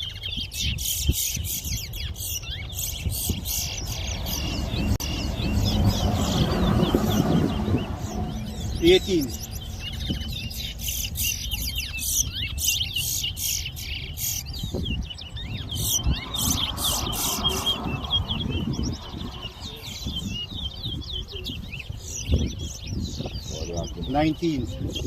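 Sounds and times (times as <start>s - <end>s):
finches twittering chirps: 0.0s - 25.0s
low rumbling background: 1.6s - 25.0s.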